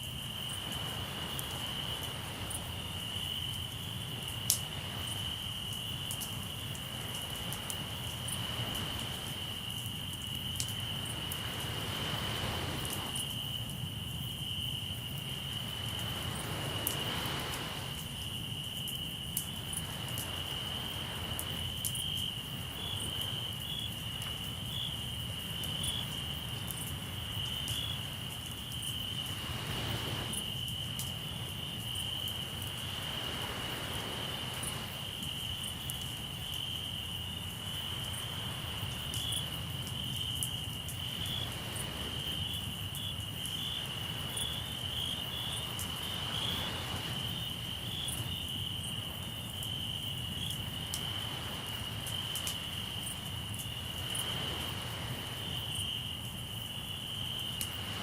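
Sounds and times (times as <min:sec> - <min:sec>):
campfire crackling: 0:00.0 - 0:58.0
crickets trilling: 0:00.0 - 0:58.0
sea waves: 0:00.4 - 0:13.7, 0:15.0 - 0:58.0.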